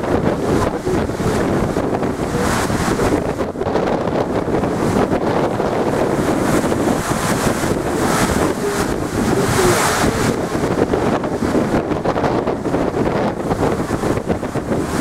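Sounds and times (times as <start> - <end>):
waves surging against sea wall: 0.0 - 15.0
wind buffeting microphone: 0.0 - 15.0.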